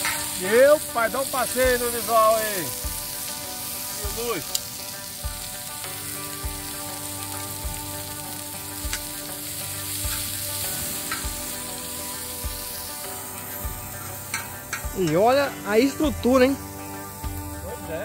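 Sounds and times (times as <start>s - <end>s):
onions sizzling in a pan: 0.0s - 18.0s.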